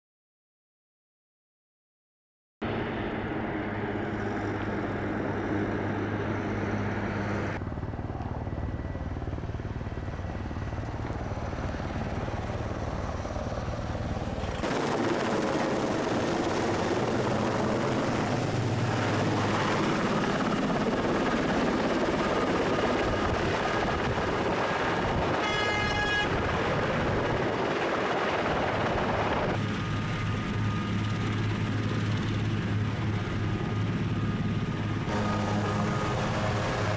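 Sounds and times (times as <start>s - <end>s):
helicopter rotor and turbine noise: 2.6s - 36.9s.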